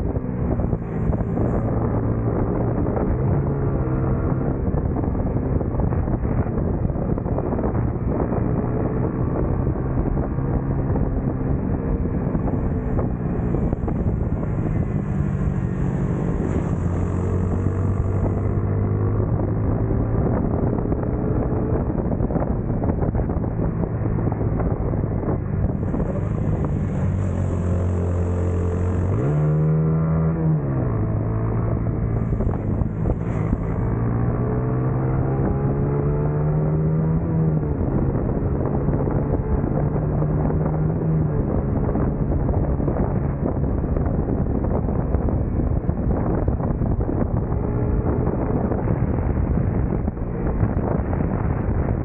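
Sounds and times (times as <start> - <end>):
racing motorcycle engine: 0.0 - 52.0
wind buffeting microphone: 0.0 - 52.0.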